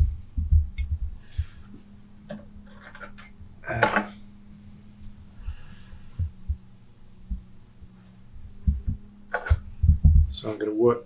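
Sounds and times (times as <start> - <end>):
soft low thumps: 0.0 - 2.7, 3.3 - 10.5
potter's wheel humming: 0.0 - 11.0.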